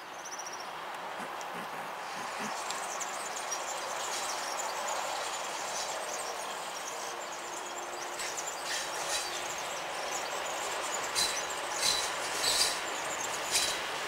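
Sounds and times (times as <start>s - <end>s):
electric locomotive rumbling: 0.9s - 14.0s.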